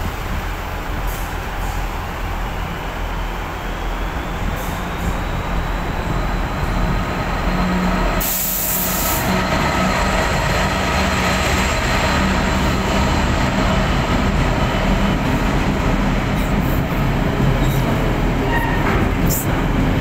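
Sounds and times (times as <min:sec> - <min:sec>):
diesel locomotive running: 0:00.0 - 0:20.0.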